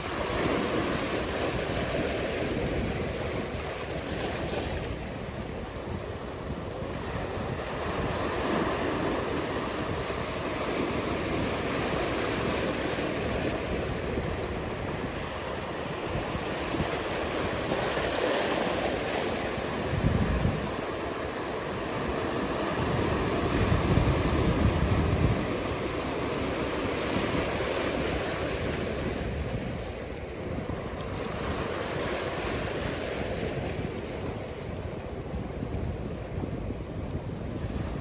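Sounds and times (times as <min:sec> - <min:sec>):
ocean surf on beach: 0:00.0 - 0:38.0
wind buffeting microphone: 0:00.0 - 0:38.0.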